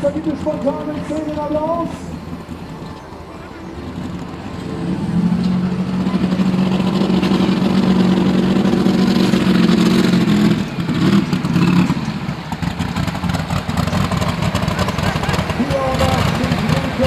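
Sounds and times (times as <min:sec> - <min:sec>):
tractor engine revving: 0:00.0 - 0:17.0.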